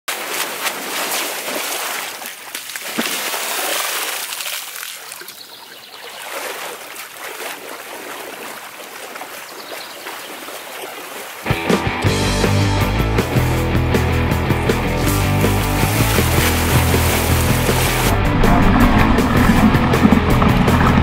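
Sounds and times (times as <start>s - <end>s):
water splashing and sloshing: 0.1s - 12.1s, 12.8s - 21.0s.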